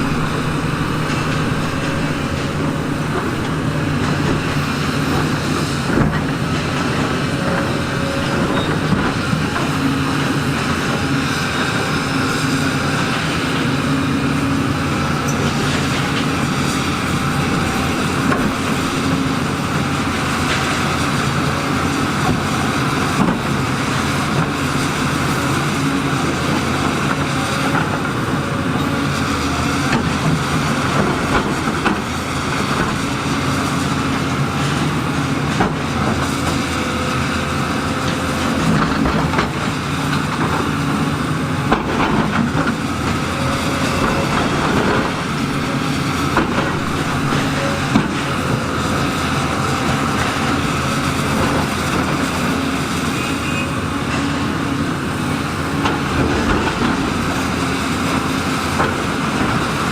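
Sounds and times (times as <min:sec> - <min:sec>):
diesel engine running steadily: 0:00.0 - 0:59.9.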